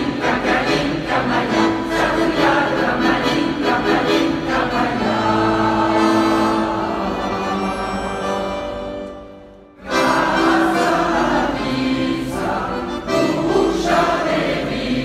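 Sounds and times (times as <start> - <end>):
mixed choir singing: 0.0 - 8.7, 9.8 - 15.0.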